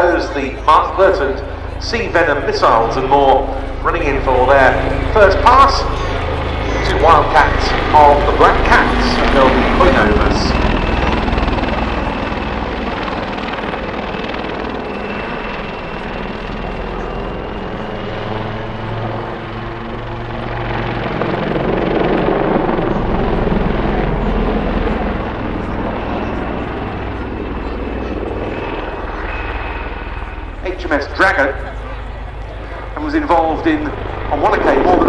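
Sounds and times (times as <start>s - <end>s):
helicopter rotors and turbines: 0.0s - 35.0s
thin steady whine: 0.0s - 35.0s.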